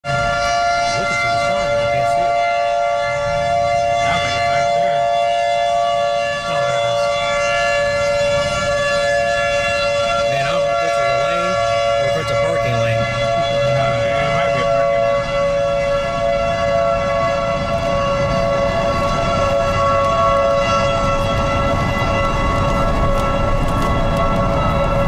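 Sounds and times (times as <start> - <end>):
warning siren steady tone: 0.0 - 25.0.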